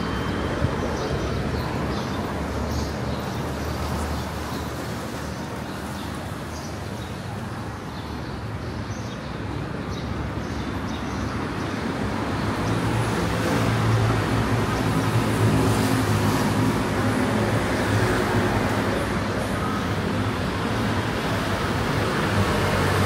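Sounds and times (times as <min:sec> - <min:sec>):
passing vehicles: 0:00.0 - 0:23.0.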